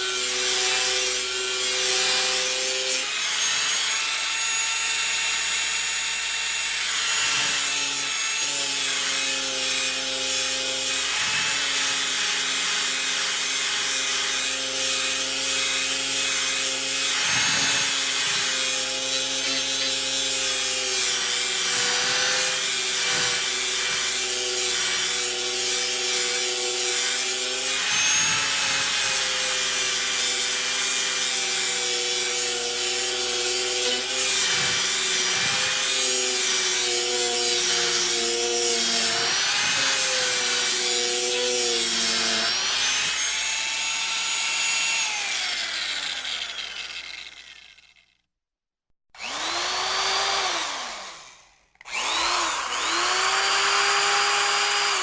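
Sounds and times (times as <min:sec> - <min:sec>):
power tool cutting wood: 0:00.0 - 0:48.2, 0:49.2 - 0:55.0.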